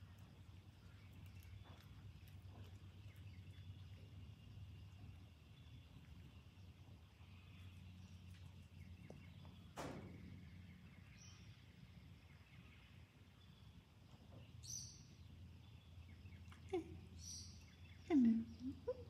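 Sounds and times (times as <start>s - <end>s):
faint bird chirps: 0.0s - 19.0s
faint low hum: 0.0s - 19.0s.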